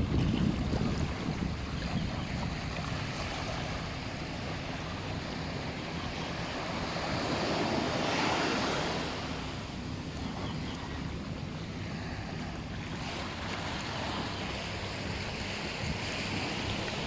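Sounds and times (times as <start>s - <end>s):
waves washing onto beach: 0.0s - 17.0s
wind buffeting microphone: 0.0s - 17.0s.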